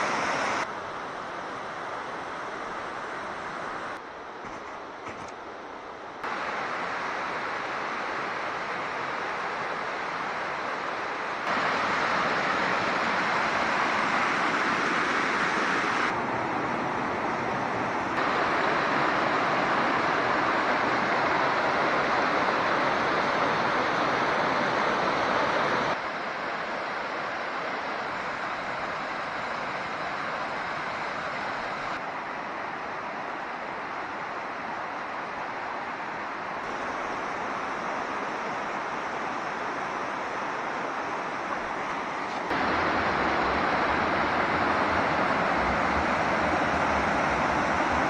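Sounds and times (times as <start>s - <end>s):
water rushing over rocks: 0.0s - 0.7s, 6.2s - 48.0s.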